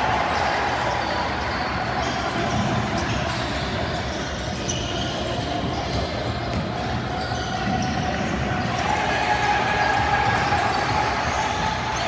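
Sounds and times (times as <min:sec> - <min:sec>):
hubbub of players and spectators: 0:00.0 - 0:12.0.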